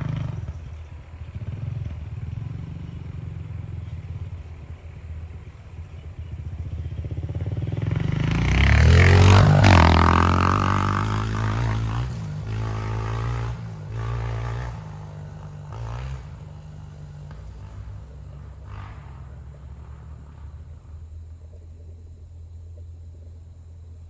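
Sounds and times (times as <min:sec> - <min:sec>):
dirt bike engine revving: 0:00.0 - 0:04.4, 0:06.1 - 0:20.9.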